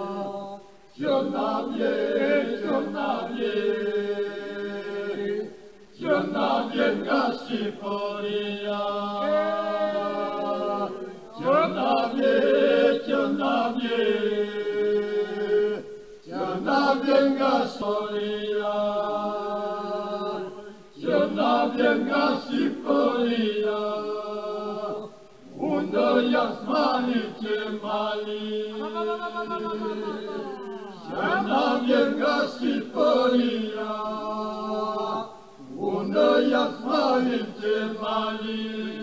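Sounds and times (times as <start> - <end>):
group singing unaccompanied: 0.0 - 39.0.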